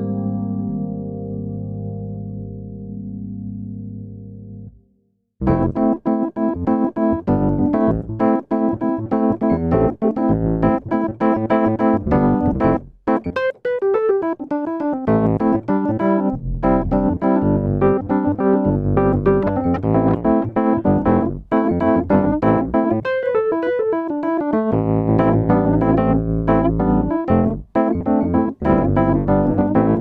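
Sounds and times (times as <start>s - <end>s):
piano chords and runs: 0.0s - 4.8s, 5.4s - 30.0s.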